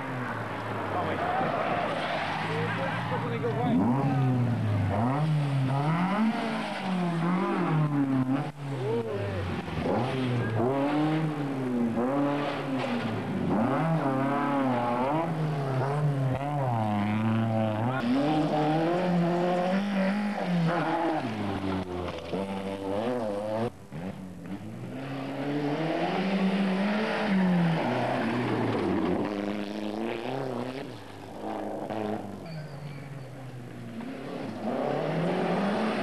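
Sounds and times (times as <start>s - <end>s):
rally car engines revving: 0.0s - 36.0s.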